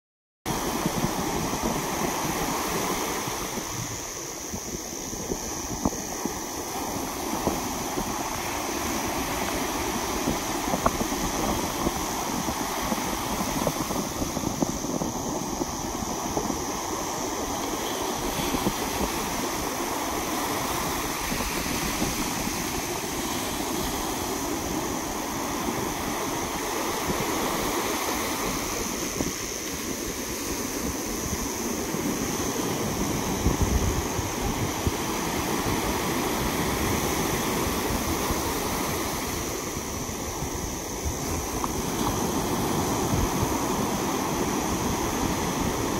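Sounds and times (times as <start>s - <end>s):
small waves breaking: 0.5s - 45.9s.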